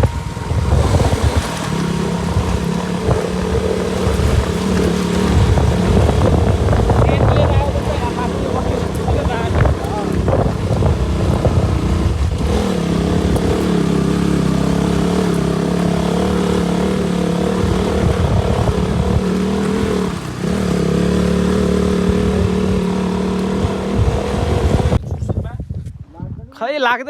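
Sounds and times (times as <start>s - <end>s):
motorcycle engine running: 0.0s - 25.3s.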